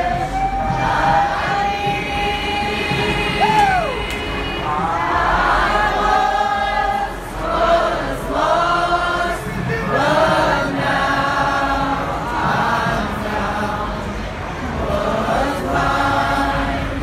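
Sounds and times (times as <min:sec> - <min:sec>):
crowd singing a worship song: 0:00.0 - 0:17.0.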